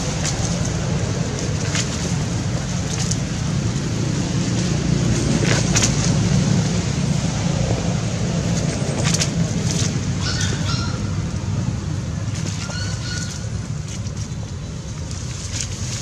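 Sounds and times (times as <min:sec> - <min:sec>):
dry leaves crackling: 0:00.0 - 0:16.0
wind rumble on microphone: 0:00.0 - 0:16.0.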